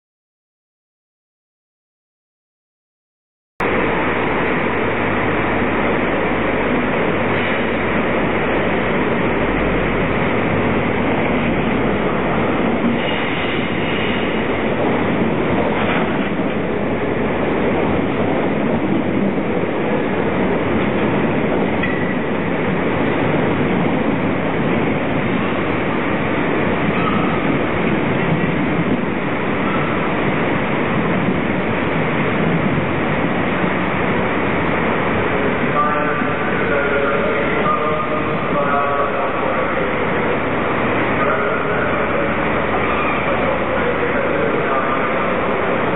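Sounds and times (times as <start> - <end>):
train wheels rumbling on rail: 3.6 - 45.9.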